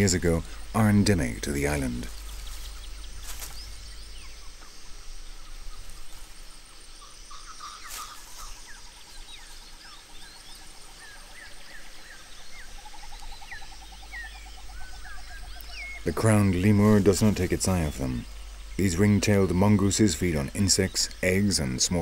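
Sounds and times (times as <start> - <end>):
forest birds chirping: 0.0 - 22.0.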